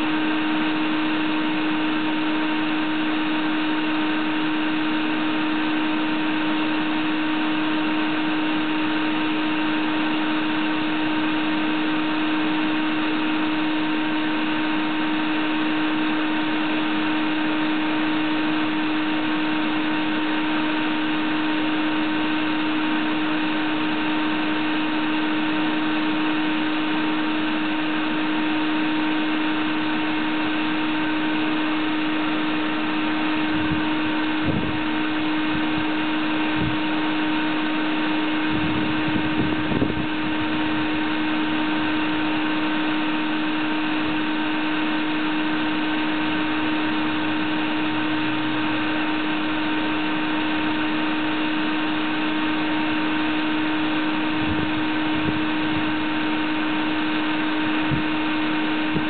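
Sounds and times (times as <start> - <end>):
shop vacuum running: 0.0 - 59.0.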